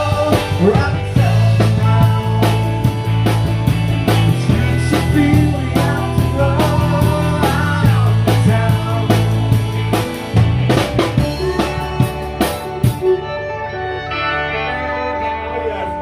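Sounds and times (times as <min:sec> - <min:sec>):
drum kit hits: 0:00.0 - 0:13.1
electric bass: 0:00.0 - 0:16.0
pedal steel guitar: 0:00.0 - 0:16.0.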